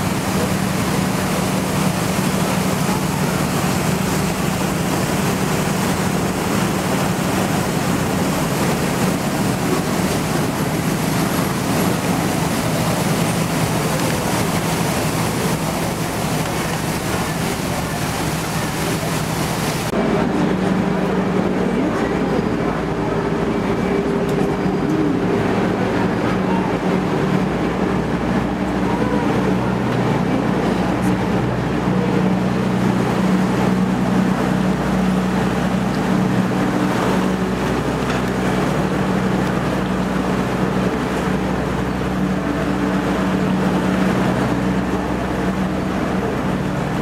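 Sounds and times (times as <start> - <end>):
boat engine humming: 0.0 - 47.0
broad rushing noise: 0.0 - 47.0.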